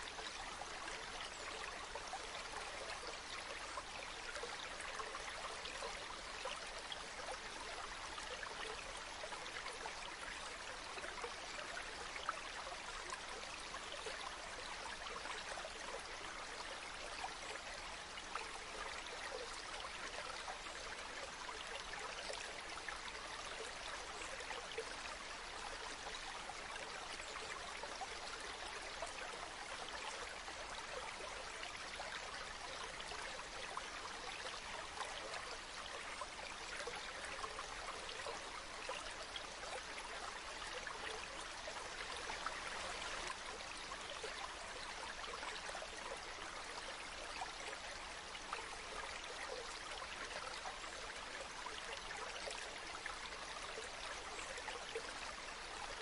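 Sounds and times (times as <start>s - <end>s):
stream murmuring: 0.0s - 56.0s.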